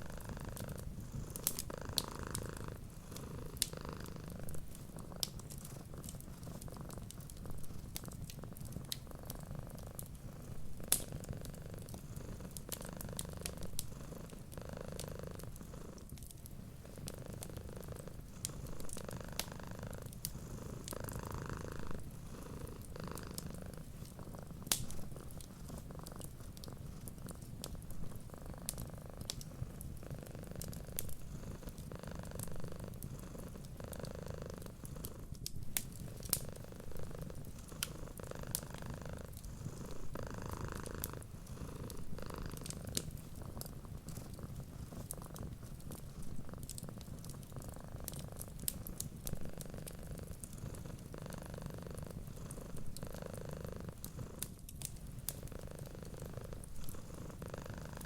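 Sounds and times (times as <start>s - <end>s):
cat purring: 0.0s - 58.0s
wood fire crackling: 0.0s - 58.0s.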